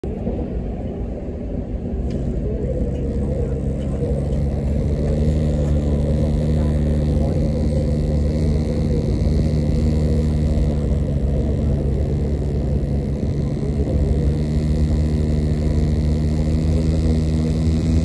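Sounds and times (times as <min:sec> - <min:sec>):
train car rumbling: 0:00.0 - 0:18.0.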